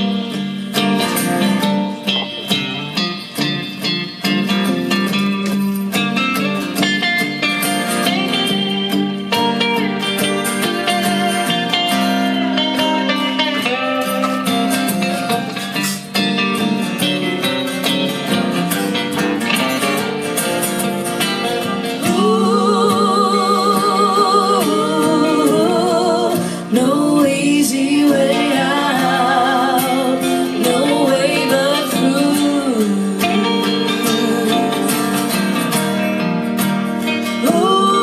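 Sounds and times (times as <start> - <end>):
folk band playing guitars: 0.0 - 38.0.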